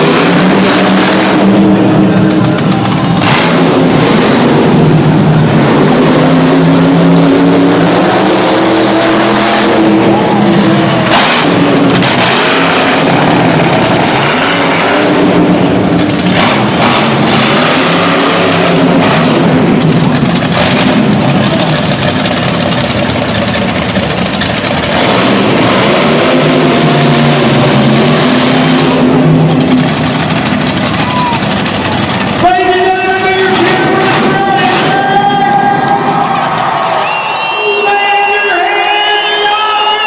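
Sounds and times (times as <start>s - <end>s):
monster truck engine revving: 0.0s - 40.0s.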